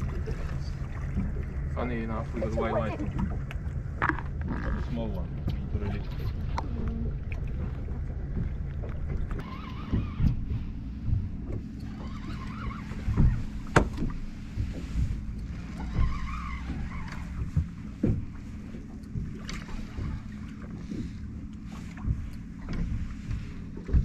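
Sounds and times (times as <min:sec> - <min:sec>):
boat engine low rumble: 0:00.0 - 0:24.0.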